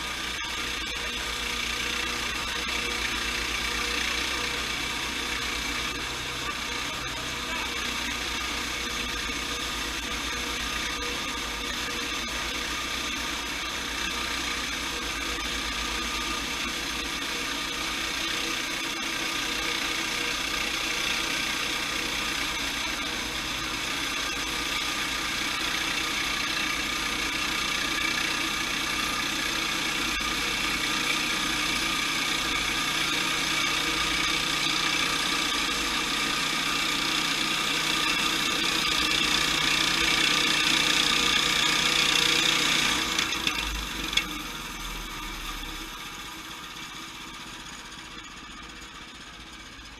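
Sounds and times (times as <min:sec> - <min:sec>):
sawmill mechanical hum: 0:00.0 - 0:49.9.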